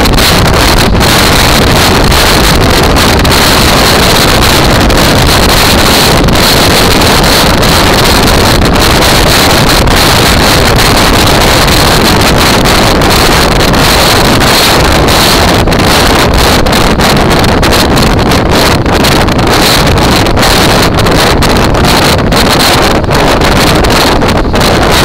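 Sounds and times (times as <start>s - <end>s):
motorcycle engine running: 0.0s - 25.0s
wind rushing over microphone: 0.0s - 25.0s.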